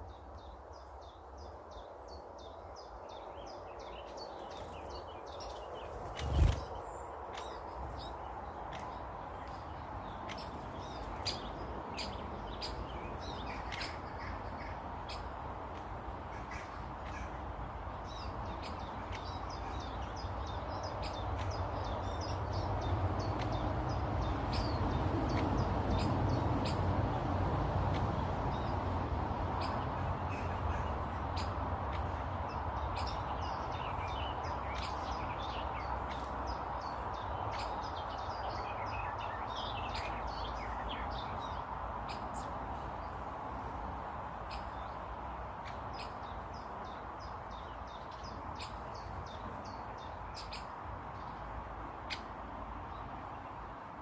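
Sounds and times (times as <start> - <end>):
garden birds chirping: 0.0 - 54.0.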